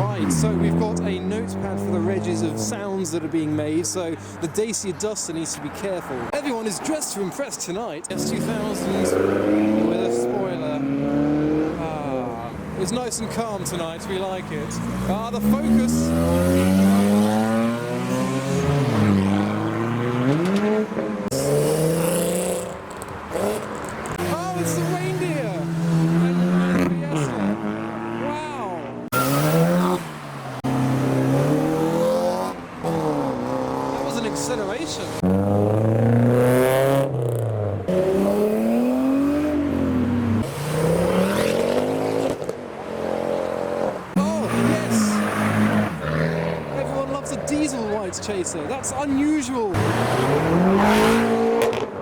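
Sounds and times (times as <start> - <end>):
car engine revving: 0.0 - 4.0, 8.1 - 52.0.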